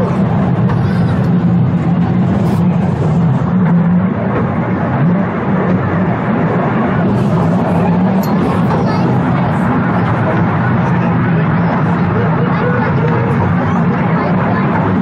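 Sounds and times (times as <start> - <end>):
railway car rolling on rails: 0.0 - 15.0.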